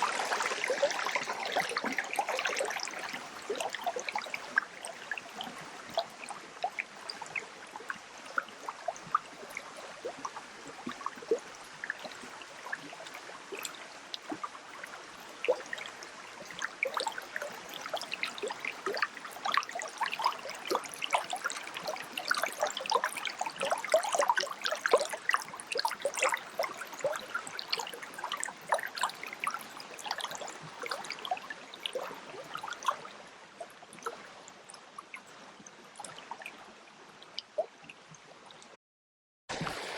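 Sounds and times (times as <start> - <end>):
water trickling and gurgling: 0.0 - 38.8, 39.5 - 39.9.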